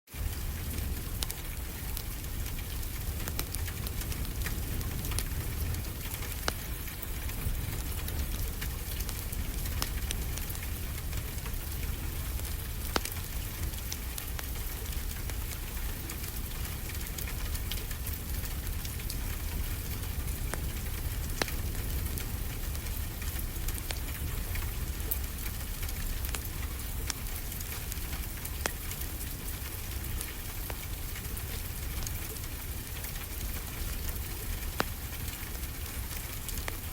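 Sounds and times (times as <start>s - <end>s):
steady rain falling: 0.1s - 36.9s
wood fire crackling: 0.1s - 36.9s.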